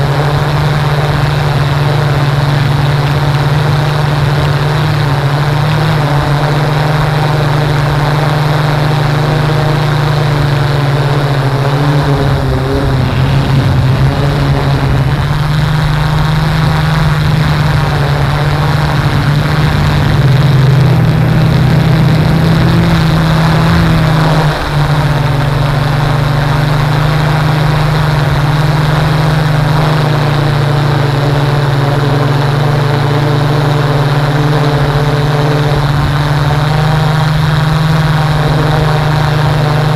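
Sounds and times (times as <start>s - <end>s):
aircraft motor and propeller drone: 0.0s - 39.9s
rushing air: 0.0s - 39.9s.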